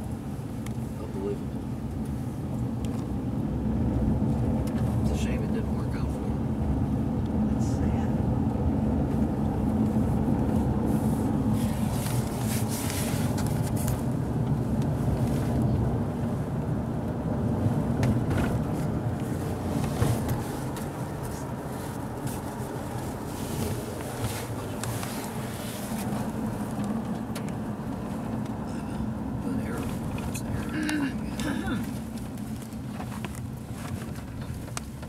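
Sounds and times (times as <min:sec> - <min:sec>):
car rumbling on the road: 0:00.0 - 0:35.0.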